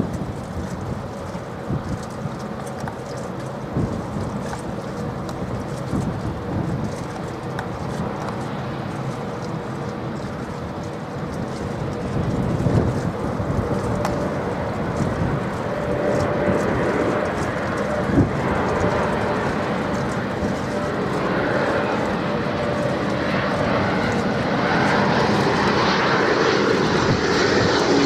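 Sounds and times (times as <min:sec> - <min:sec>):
jet engines rumbling: 0:00.0 - 0:28.0
steady jet whine: 0:00.0 - 0:28.0.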